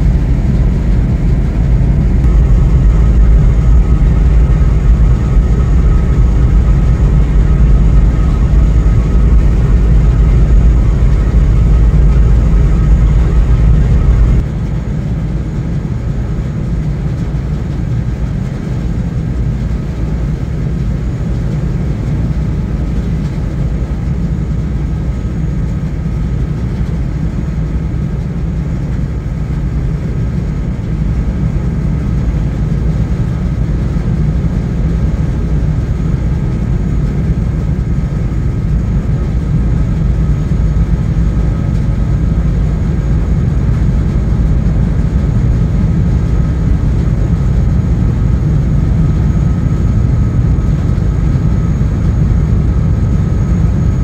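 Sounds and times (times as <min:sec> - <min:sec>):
boat engine rumble: 0:00.0 - 0:54.0
faint steady whine: 0:00.0 - 0:54.0.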